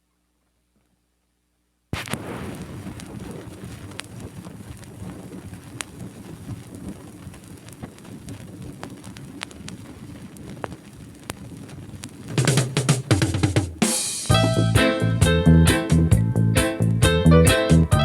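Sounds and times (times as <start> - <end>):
vinyl crackle and hiss: 0.0 - 18.0
vinyl pops and clicks: 2.0 - 18.0.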